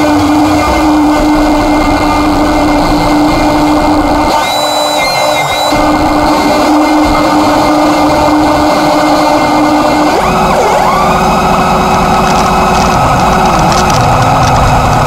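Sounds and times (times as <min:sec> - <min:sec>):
swooping siren-like tone: 0:00.0 - 0:13.8
distorted noise music: 0:00.0 - 0:15.0
fast rattling pulse: 0:00.0 - 0:15.0
steady drone: 0:00.0 - 0:15.0.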